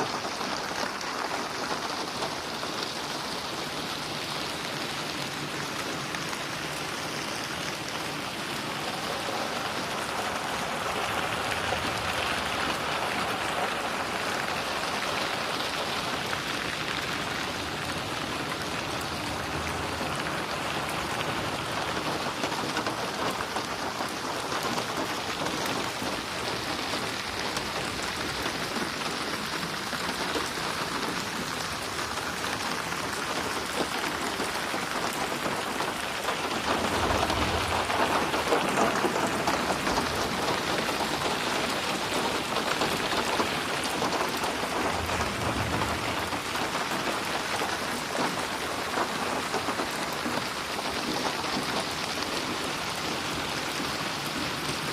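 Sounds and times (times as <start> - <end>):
rain splashing on a surface: 0.0 - 54.9.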